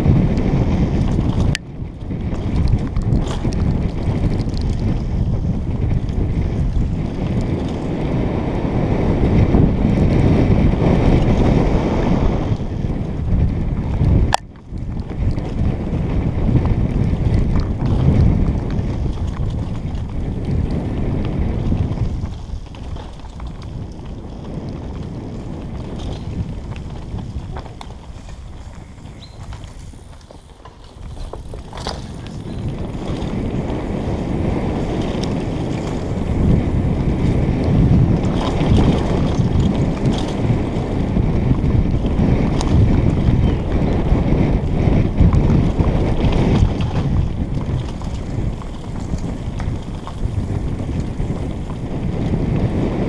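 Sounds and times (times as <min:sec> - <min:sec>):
bike rumbling and rattling: 0:00.0 - 0:53.0
wind buffeting microphone: 0:00.0 - 0:53.0.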